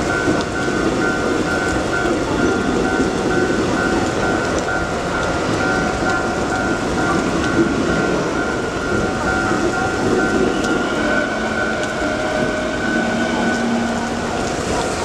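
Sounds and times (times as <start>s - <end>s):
heavy rain: 0.0s - 15.0s
level-crossing warning bell: 0.0s - 15.0s.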